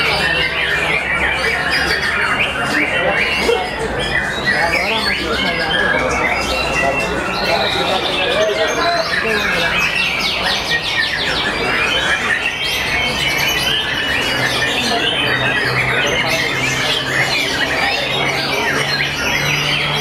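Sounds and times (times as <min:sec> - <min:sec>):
birds singing in chorus: 0:00.0 - 0:20.0.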